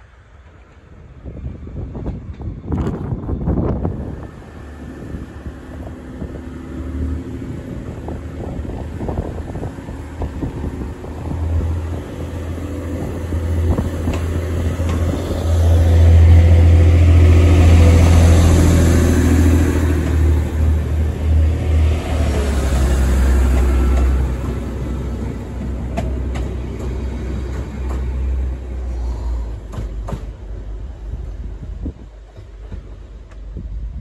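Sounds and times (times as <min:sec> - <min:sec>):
diesel train engine rumble: 0:00.0 - 0:34.0.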